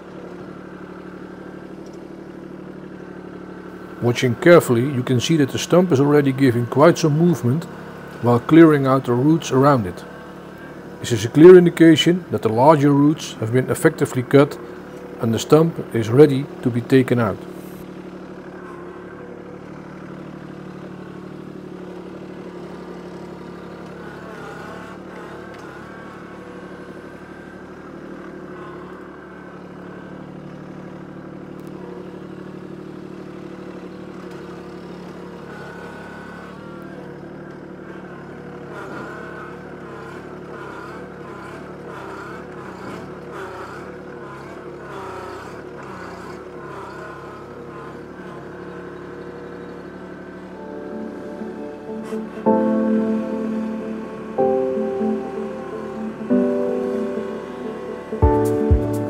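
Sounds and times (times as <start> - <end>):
tractor diesel engine under load: 0.0 - 51.0.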